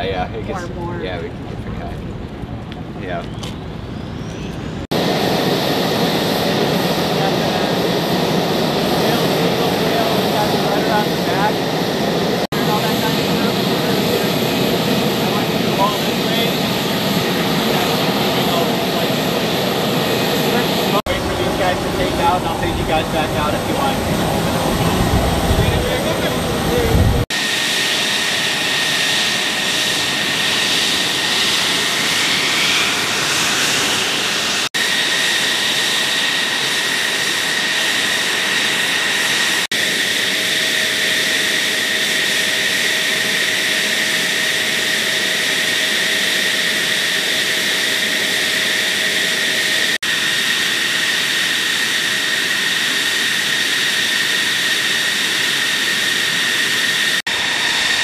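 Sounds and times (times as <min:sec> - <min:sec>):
jet engine roaring: 0:00.0 - 0:58.0.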